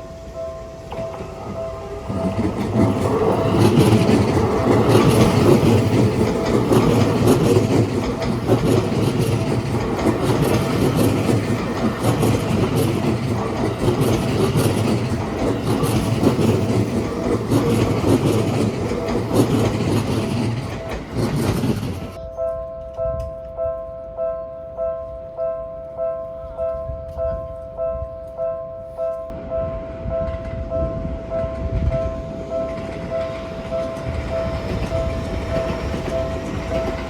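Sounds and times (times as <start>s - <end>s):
train wheels rumbling on rails: 0.0s - 22.2s, 29.3s - 37.0s.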